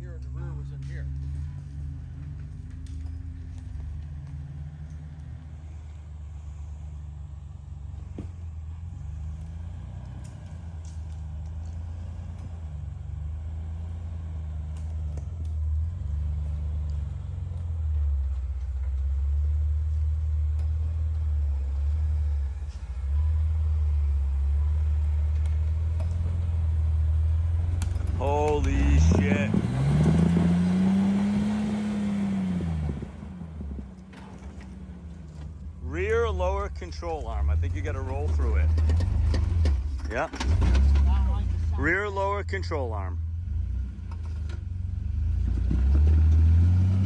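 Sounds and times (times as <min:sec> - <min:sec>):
engine droning at low revs: 0:00.0 - 0:47.0.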